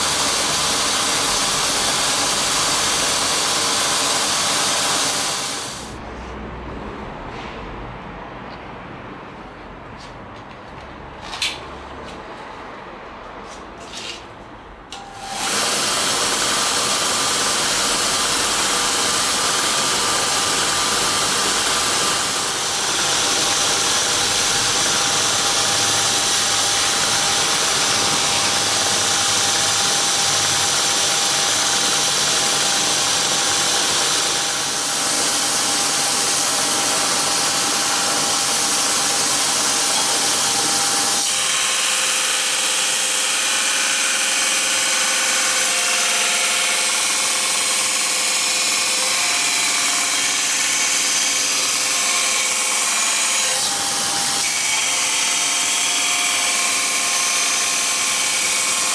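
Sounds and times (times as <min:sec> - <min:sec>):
belt grinder whirring: 0:00.0 - 0:06.0, 0:14.9 - 0:58.9.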